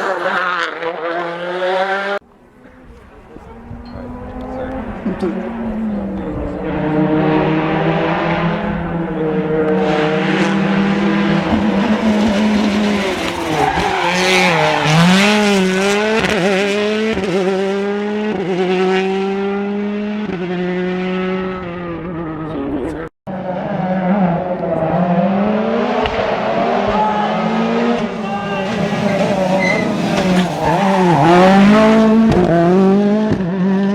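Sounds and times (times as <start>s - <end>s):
rally car engine revving: 0.0s - 33.9s.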